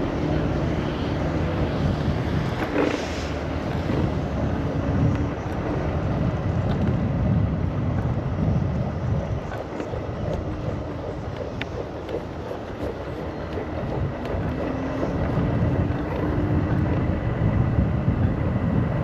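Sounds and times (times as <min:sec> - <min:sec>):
electric scooter rumbling: 0:00.0 - 0:19.0
wind buffeting microphone: 0:00.0 - 0:19.0.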